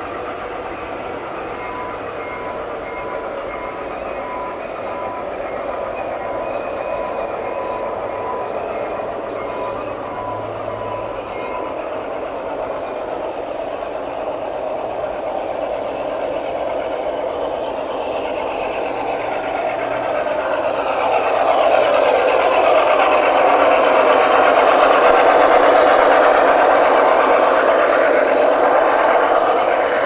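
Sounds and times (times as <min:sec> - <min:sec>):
model train wheels rumbling: 0:00.0 - 0:30.0.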